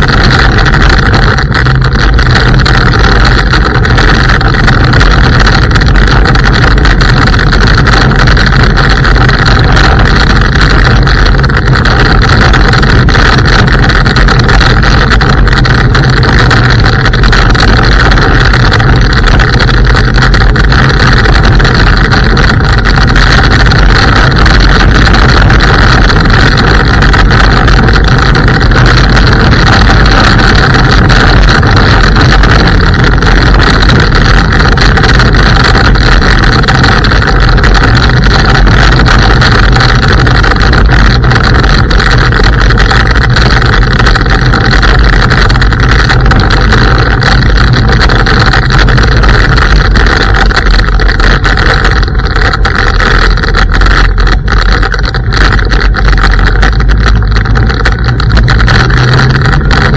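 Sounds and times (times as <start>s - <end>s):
scooter tyres rolling on gravel: 0.0s - 59.9s.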